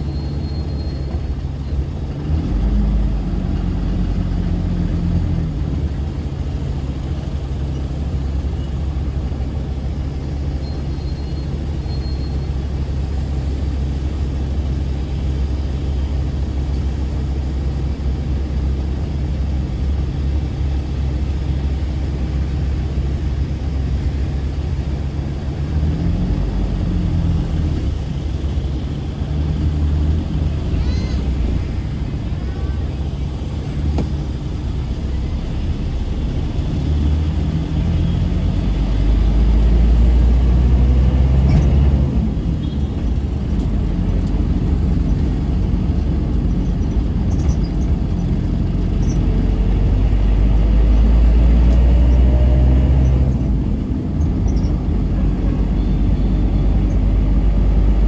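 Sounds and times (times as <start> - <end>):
car engine humming: 0.0 - 58.0
road rumble: 0.0 - 58.0.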